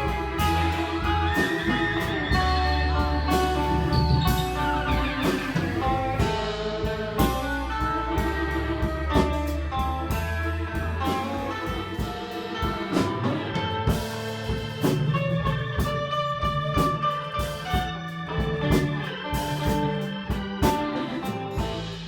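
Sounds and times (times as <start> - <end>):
bass: 0.0 - 22.0
guitar lines: 0.0 - 22.0.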